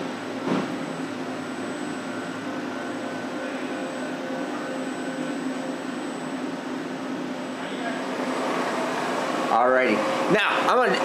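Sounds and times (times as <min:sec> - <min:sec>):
machine hum with high whine: 0:00.0 - 0:11.0.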